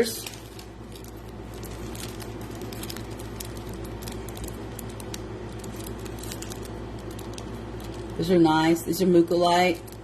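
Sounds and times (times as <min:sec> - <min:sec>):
packet rustling: 0:00.0 - 0:08.7, 0:09.3 - 0:10.0
steady low hum: 0:00.0 - 0:10.0.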